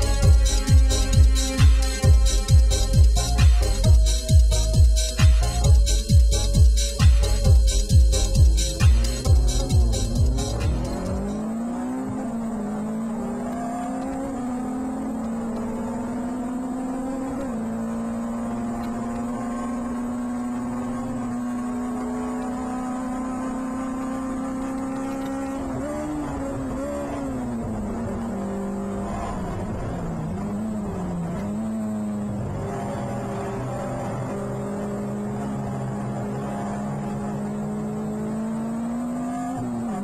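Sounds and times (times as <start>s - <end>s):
race car engine under load: 5.4s - 40.0s.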